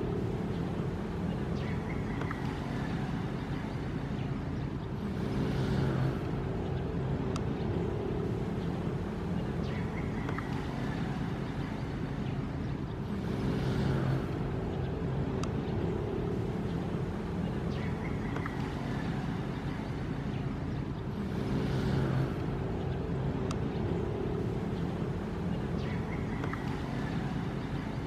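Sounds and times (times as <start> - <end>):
low rumble of surf: 0.0 - 28.0.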